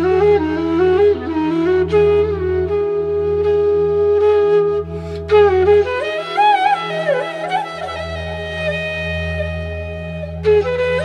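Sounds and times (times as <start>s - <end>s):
flute long note: 0.0s - 11.0s.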